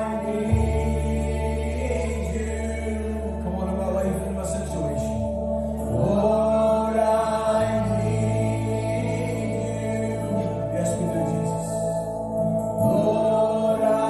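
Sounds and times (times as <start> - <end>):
singing voices: 0.0 - 14.0
slow music with held low notes: 0.0 - 14.0.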